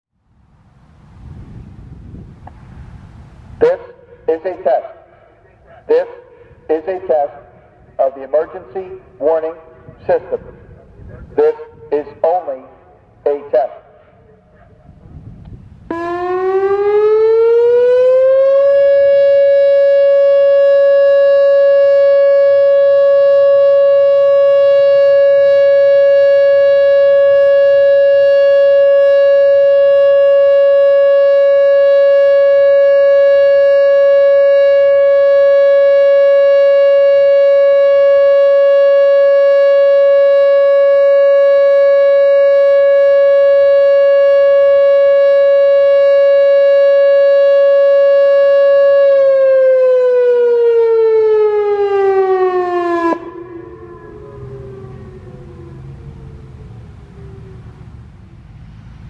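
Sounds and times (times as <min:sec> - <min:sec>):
electronic warning siren steady tone: 0:02.9 - 0:58.3.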